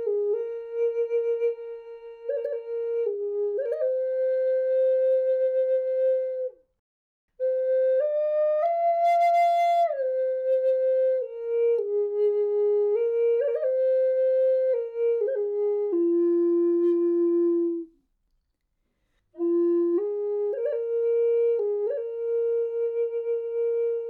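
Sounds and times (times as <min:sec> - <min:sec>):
solo flute melody: 0:00.0 - 0:06.7, 0:07.4 - 0:18.0, 0:19.4 - 0:24.0.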